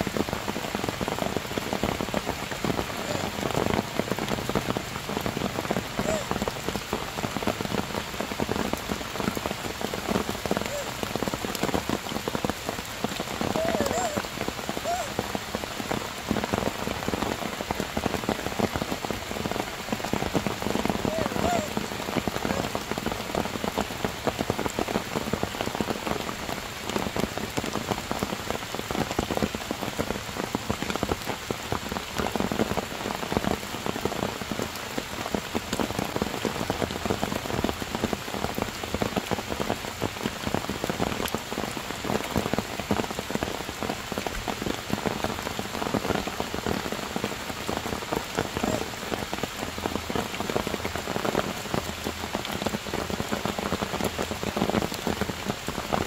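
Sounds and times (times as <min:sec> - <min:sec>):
heavy rain on stone and leaves: 0:00.0 - 0:56.0.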